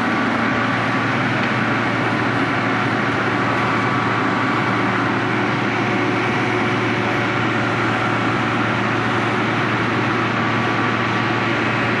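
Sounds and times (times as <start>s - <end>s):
milling machine running: 0.0s - 12.0s.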